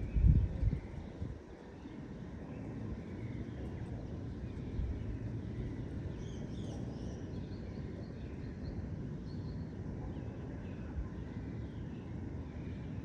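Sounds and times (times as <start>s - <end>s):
distant city rumble: 0.0s - 13.0s.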